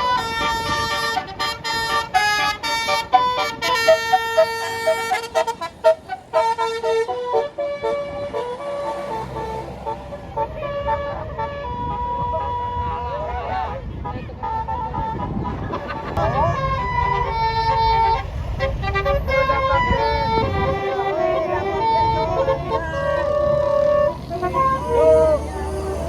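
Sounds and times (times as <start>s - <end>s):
musical air horn tune: 0.0s - 13.3s, 16.2s - 26.0s
low bus engine rumble: 0.0s - 26.0s.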